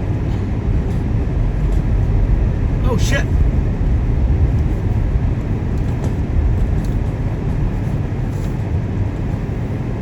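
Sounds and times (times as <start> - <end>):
car tyres and engine rumbling: 0.0 - 10.0.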